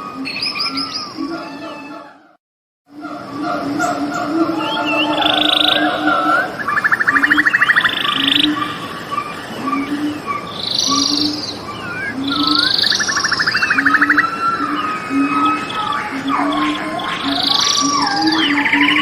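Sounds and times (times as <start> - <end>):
birds chirping: 0.0 - 2.2, 2.9 - 19.0
frogs croaking: 2.9 - 19.0
fast pulsed trills: 3.4 - 19.0.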